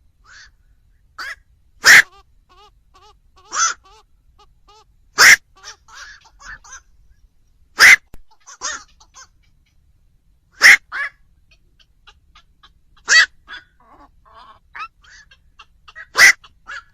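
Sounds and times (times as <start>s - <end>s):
herons calling harshly: 0.0s - 9.9s, 10.5s - 16.9s.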